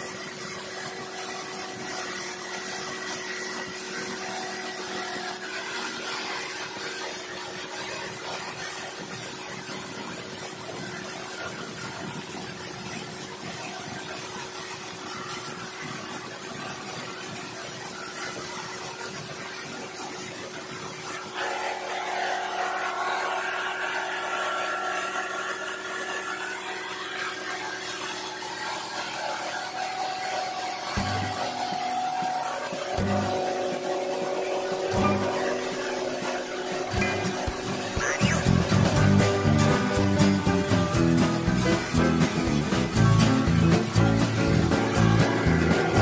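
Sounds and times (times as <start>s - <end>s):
engine-driven thresher running: 0.0s - 46.0s.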